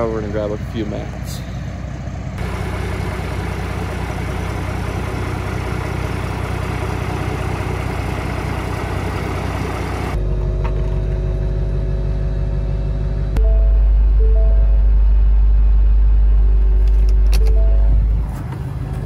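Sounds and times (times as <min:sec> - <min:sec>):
deep engine hum: 0:00.0 - 0:19.0
truck engine idling: 0:00.0 - 0:19.0.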